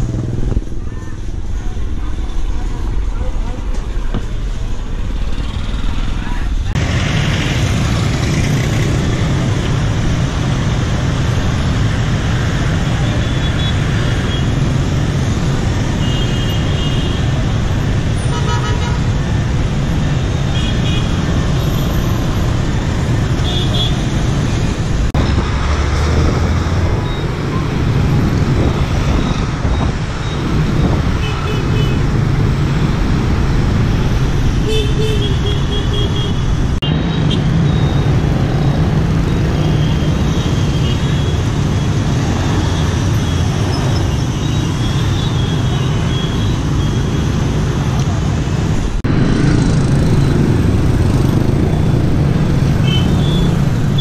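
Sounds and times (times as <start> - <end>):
motorbike traffic engine hum: 0.0 - 54.0.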